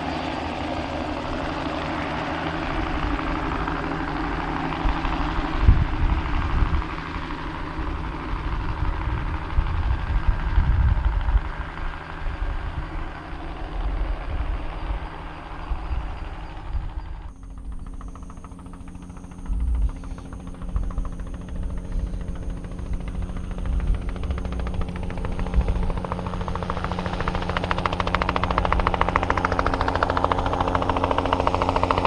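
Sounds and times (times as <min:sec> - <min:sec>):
helicopter turbine and rotor: 0:00.0 - 0:32.0
low rumbling gusts: 0:00.0 - 0:32.0.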